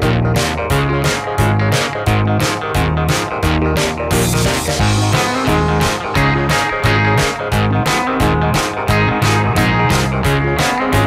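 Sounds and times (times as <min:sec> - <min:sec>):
guitar and bass music with beat: 0:00.0 - 0:11.0.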